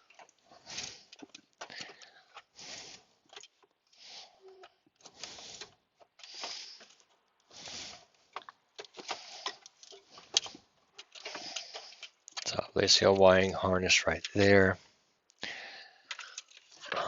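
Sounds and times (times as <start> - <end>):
wiring and plastic parts rustling: 0.0 - 17.0.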